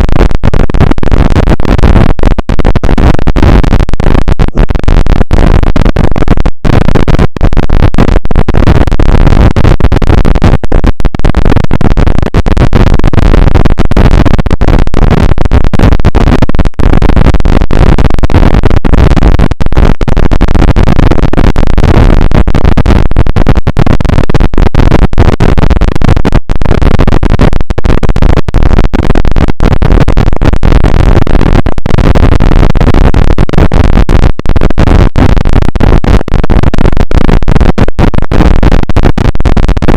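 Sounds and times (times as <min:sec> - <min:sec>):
harsh distorted noise: 0:00.0 - 0:39.9.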